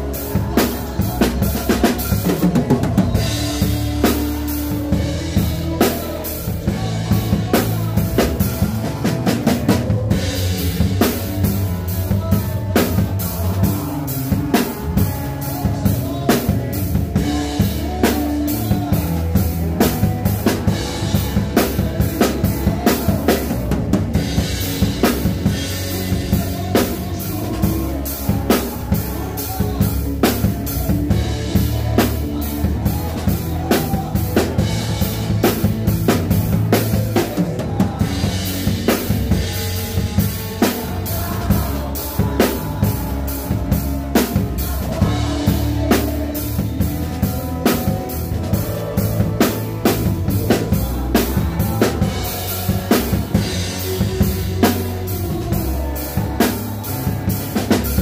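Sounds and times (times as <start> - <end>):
drum kit beat: 0.0 - 58.0
guitar and bass backing: 0.0 - 58.0.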